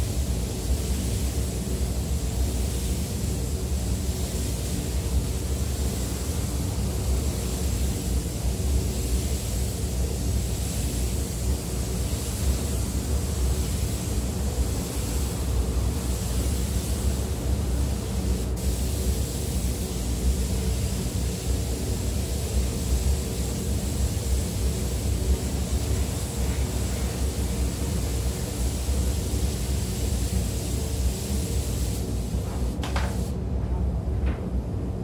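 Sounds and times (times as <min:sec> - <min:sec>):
spray gun air hiss: 0:00.0 - 0:33.4
ventilation fans rumbling: 0:00.0 - 0:35.0.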